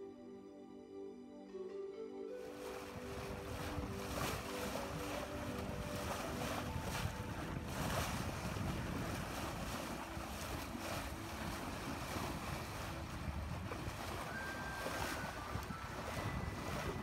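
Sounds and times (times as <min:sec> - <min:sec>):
water rushing along hull: 0:02.3 - 0:17.0
wind buffeting microphone: 0:02.5 - 0:17.0.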